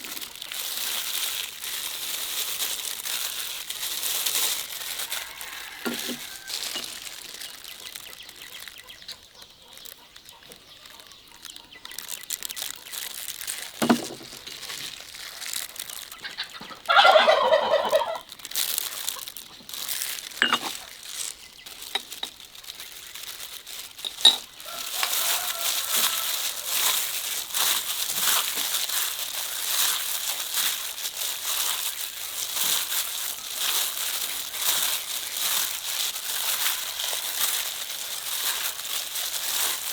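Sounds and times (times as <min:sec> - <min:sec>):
crackles and rustling: 0:00.0 - 0:39.9.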